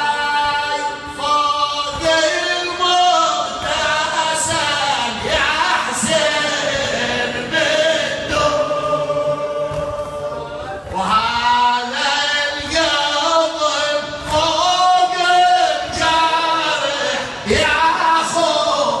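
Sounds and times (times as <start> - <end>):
man chanting a lament: 0.0 - 19.0.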